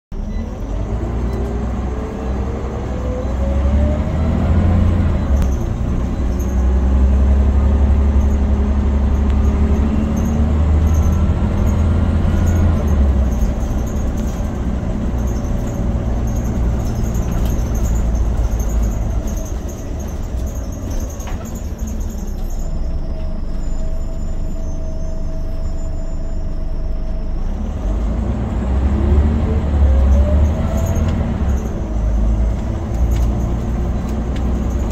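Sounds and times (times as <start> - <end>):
bus engine rumble: 0.1 - 34.9.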